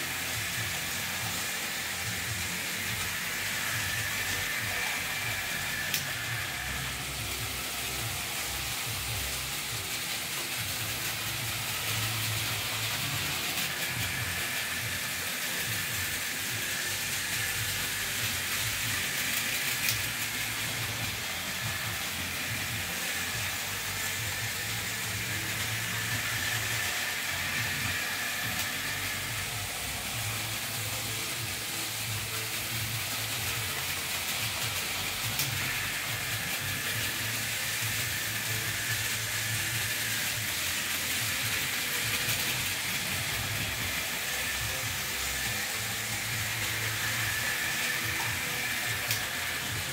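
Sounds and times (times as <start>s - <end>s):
model trains whirring on track: 0.0s - 49.9s.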